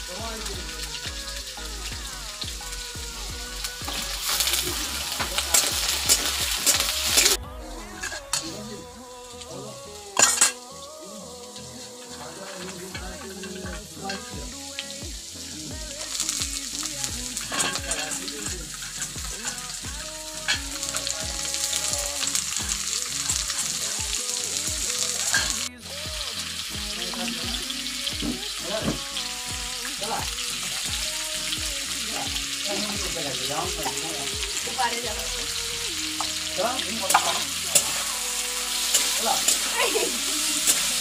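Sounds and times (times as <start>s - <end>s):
food sizzling in oil: 0.0s - 41.0s.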